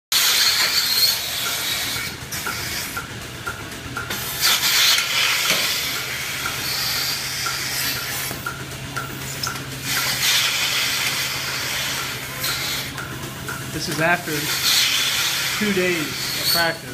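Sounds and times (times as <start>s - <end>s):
milking machine vacuum hissing: 0.1s - 3.1s, 4.1s - 8.5s, 9.2s - 13.0s, 13.7s - 16.9s.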